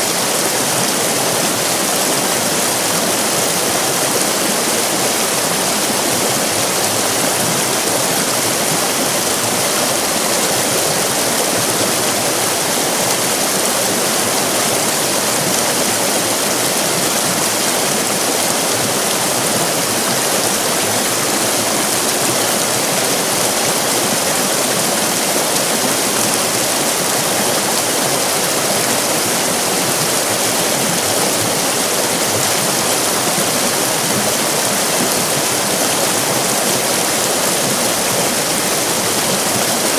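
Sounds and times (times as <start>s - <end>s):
water rushing over rapids: 0.0s - 39.9s.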